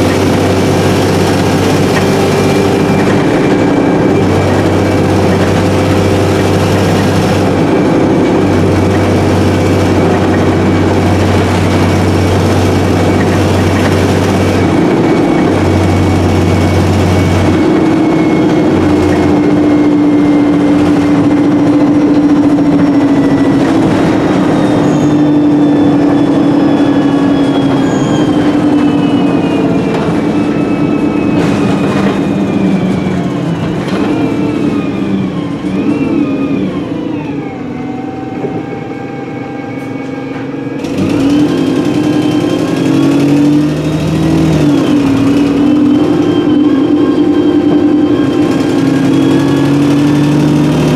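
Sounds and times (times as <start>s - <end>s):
bus engine drone: 0.0s - 50.9s
falling whine: 0.0s - 50.9s.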